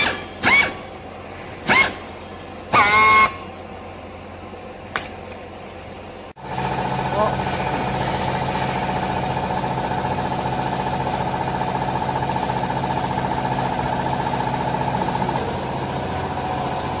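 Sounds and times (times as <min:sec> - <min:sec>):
hydraulic pump motor humming: 0:00.0 - 0:17.0.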